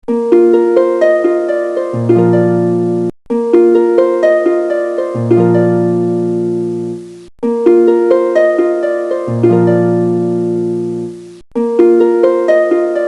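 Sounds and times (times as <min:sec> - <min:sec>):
plucked-string melody: 0:00.1 - 0:13.0.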